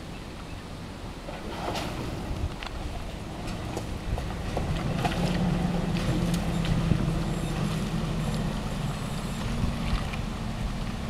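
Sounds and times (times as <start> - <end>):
distant engine running low: 0.0 - 11.0.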